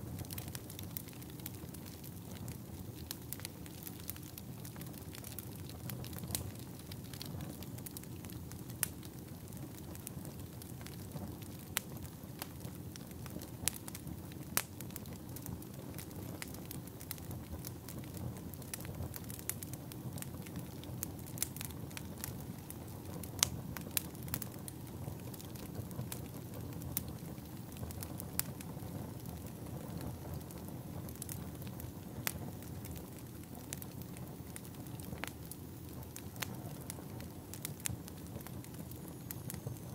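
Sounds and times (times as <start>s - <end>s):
fire crackling and popping: 0.0s - 39.9s
low continuous rumble: 0.0s - 39.9s.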